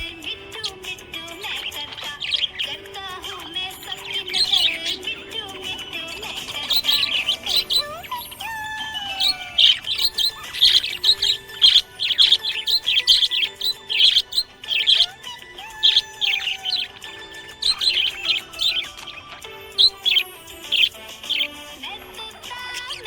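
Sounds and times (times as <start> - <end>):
budgerigar chirping: 0.0 - 23.0.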